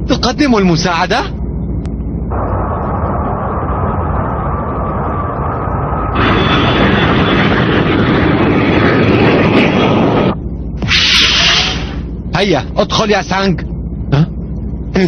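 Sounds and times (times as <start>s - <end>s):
spaceship engine roar: 0.0s - 15.0s.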